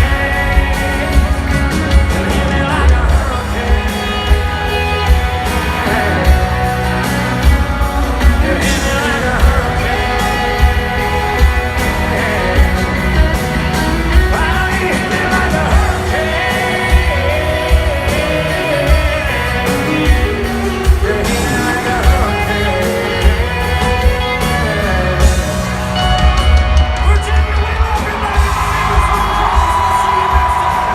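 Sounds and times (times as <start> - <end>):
man singing lead vocal: 0.0 - 25.7
live country band playing: 0.0 - 30.9.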